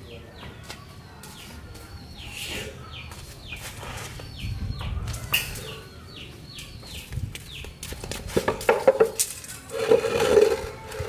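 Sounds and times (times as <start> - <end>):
chicks peeping: 0.1 - 9.2.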